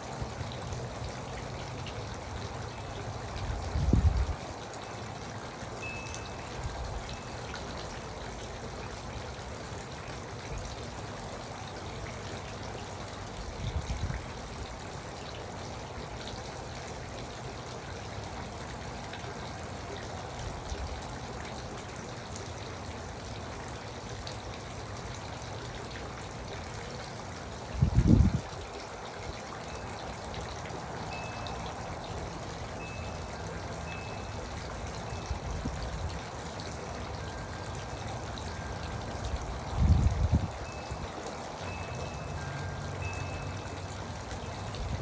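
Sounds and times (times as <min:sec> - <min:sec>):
fountain water trickling: 0:00.0 - 0:45.0.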